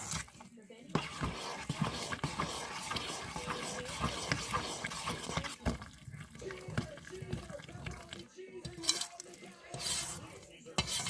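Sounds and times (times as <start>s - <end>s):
spoon scraping metal bowl: 0.0s - 11.0s.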